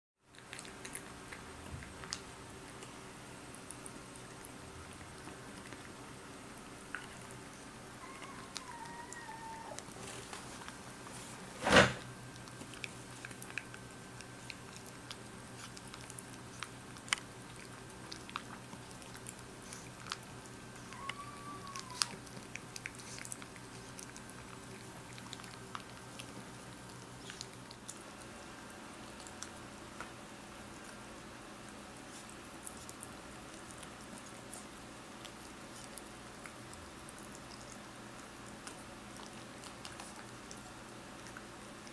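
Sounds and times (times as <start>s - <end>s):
animal crunching dry kibble: 0.3s - 11.4s, 12.1s - 41.9s.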